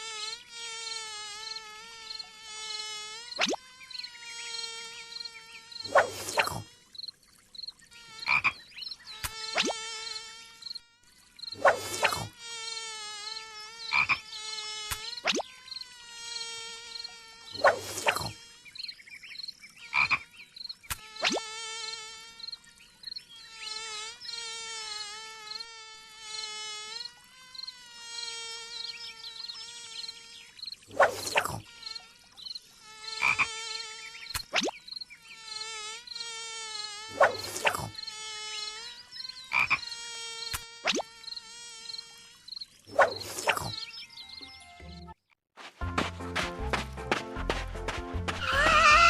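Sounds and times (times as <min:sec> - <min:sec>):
cartoon mosquito buzzing: 0:00.0 - 0:07.1, 0:07.9 - 0:45.2, 0:48.3 - 0:49.0.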